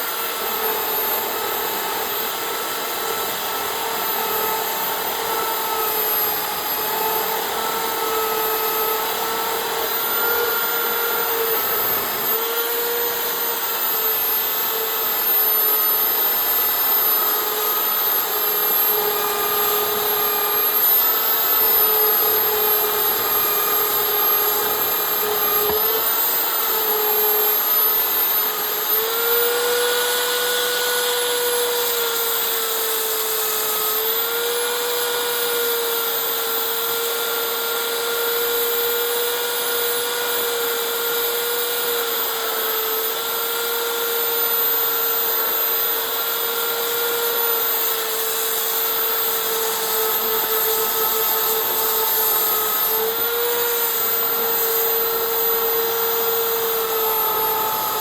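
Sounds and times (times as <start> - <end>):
power tool motor whine on wood: 0.0 - 58.0.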